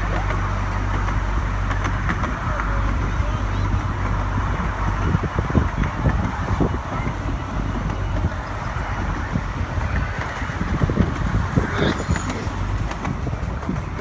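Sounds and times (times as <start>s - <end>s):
train carriages rolling on track: 0.0s - 14.0s
wheels knocking and clattering: 0.0s - 14.0s
wind buffeting microphone: 0.0s - 14.0s.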